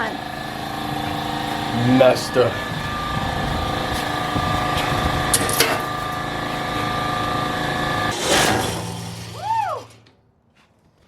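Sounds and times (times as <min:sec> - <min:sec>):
angle grinder whining: 0:00.0 - 0:10.1.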